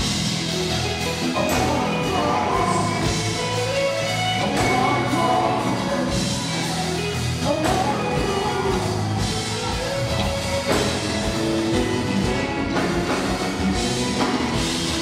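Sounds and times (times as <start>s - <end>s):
bass guitar: 0.0s - 15.0s
drum kit: 0.0s - 15.0s
keyboard: 0.0s - 15.0s
person singing: 0.0s - 15.0s.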